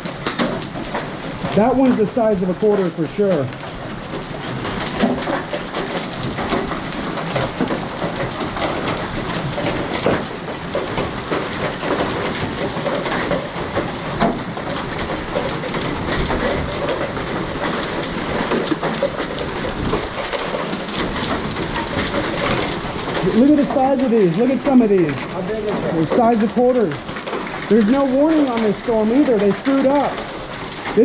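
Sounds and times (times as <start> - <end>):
hailstones hitting concrete: 0.0 - 31.0
heavy rain: 0.0 - 31.0.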